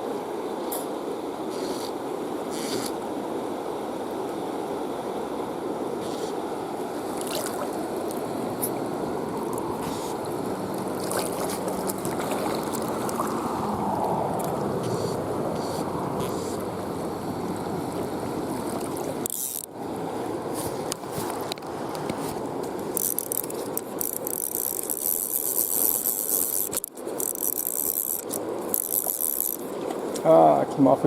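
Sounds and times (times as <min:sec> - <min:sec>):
river rushing: 0:00.0 - 0:30.9.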